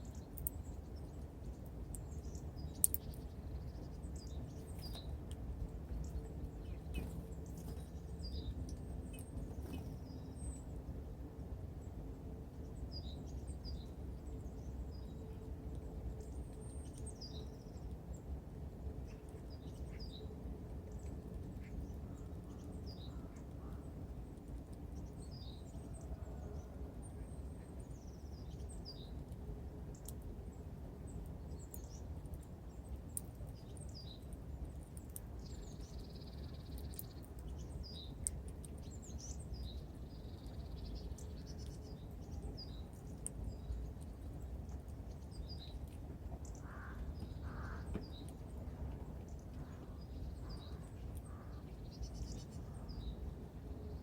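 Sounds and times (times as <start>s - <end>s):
low background rumble: 0.0s - 54.0s
small songbirds chipping: 0.0s - 54.0s.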